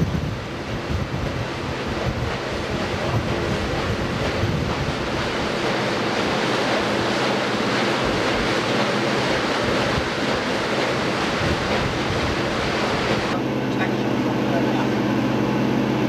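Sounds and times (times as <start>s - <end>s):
wind buffeting microphone: 0.0s - 13.4s
paddlewheel splashing through water: 0.0s - 16.0s.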